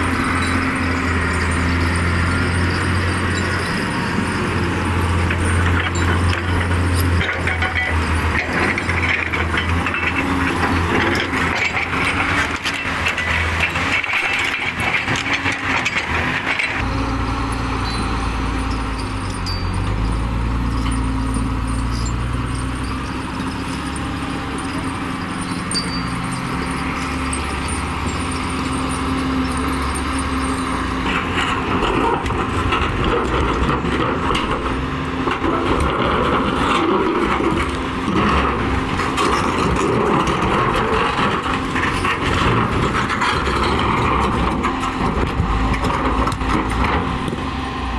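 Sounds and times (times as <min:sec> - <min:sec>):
rough clattering: 0:00.0 - 0:16.9, 0:17.8 - 0:47.5
diesel engine under load: 0:00.0 - 0:47.9.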